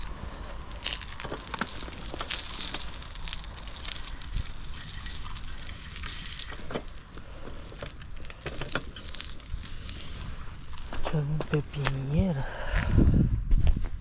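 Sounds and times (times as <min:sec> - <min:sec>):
crackling clicks: 0:00.0 - 0:12.1
bicycle tyres rolling: 0:00.0 - 0:14.0.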